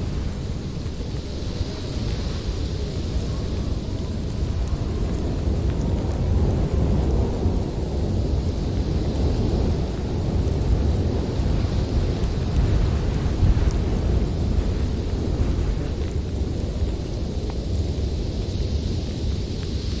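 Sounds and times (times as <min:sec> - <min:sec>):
wind blowing hard: 0:00.0 - 0:20.0.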